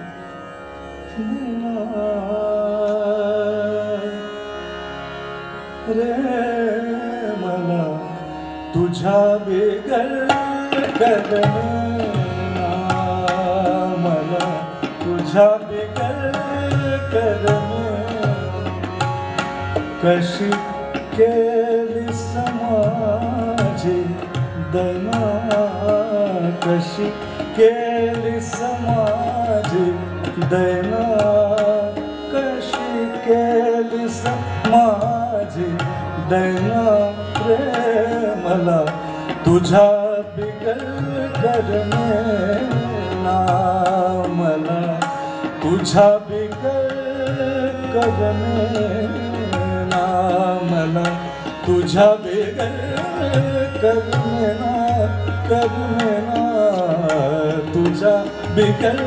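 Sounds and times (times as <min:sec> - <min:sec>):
harmonium: 0:00.0 - 0:59.0
tabla: 0:00.0 - 0:59.0
man singing: 0:01.0 - 0:04.7, 0:05.8 - 0:59.0.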